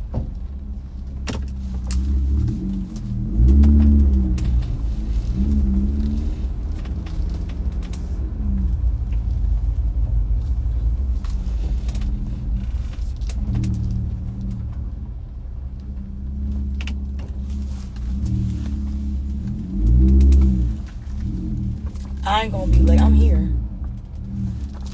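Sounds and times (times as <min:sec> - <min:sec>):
truck engine and road rumble: 0:00.0 - 0:24.9.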